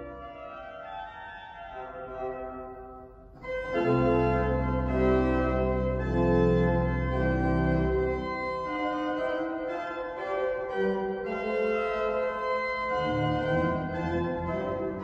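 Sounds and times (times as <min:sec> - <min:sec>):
organ playing slow chords: 0:01.6 - 0:15.0.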